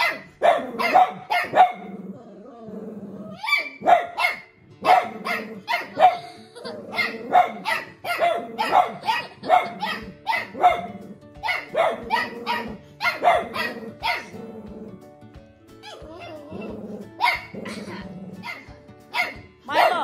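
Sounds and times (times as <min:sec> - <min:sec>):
dogs barking: 0:00.0 - 0:02.2, 0:03.3 - 0:15.0, 0:15.8 - 0:20.0
tv music: 0:00.0 - 0:02.2, 0:03.1 - 0:20.0.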